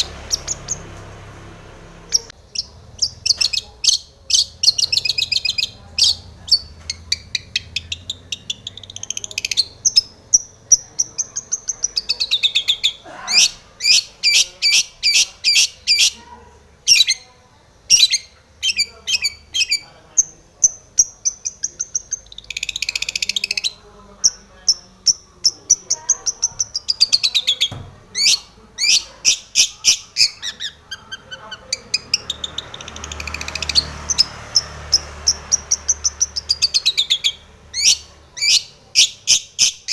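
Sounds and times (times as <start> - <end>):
shrike singing: 0.0 - 16.2, 16.8 - 39.9.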